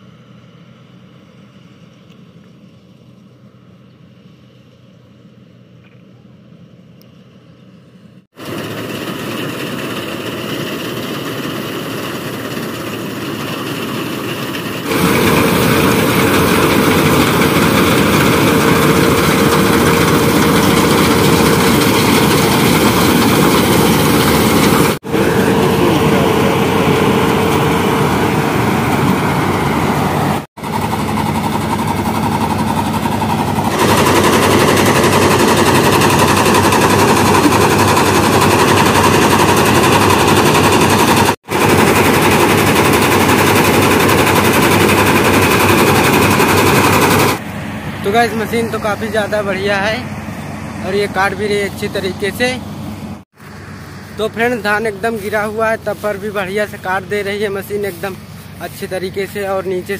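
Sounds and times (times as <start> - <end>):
combine harvester engine and threshing: 0.0 - 59.9.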